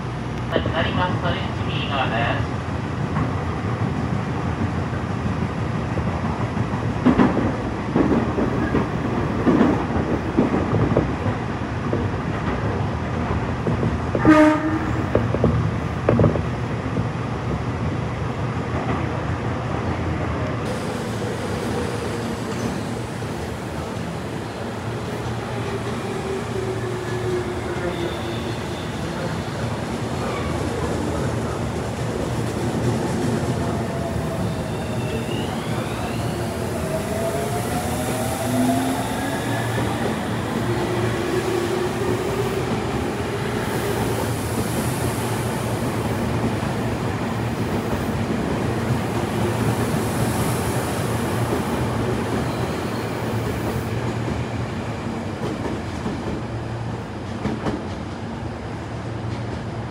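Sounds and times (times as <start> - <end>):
train wheels on rails: 2.8 - 59.9.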